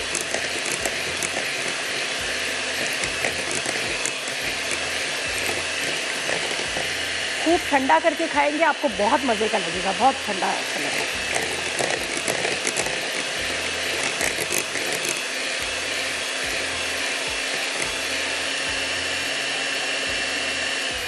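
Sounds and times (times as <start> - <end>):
electric hand beater whirring: 0.0 - 21.0.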